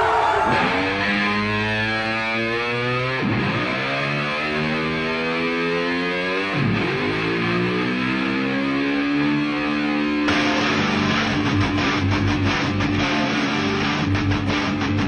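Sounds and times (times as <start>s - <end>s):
distorted electric guitar chords: 0.0s - 15.0s.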